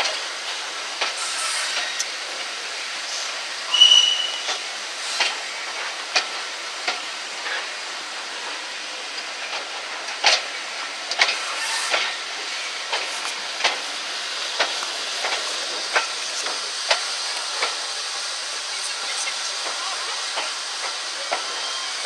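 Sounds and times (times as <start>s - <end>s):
train steady hiss: 0.0s - 22.0s
wheels clicking over rail joints: 0.0s - 22.0s.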